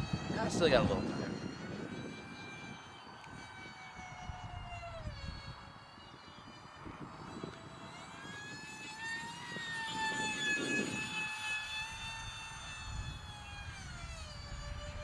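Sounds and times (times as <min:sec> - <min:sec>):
electric ducted fan whine: 0:00.0 - 0:15.0.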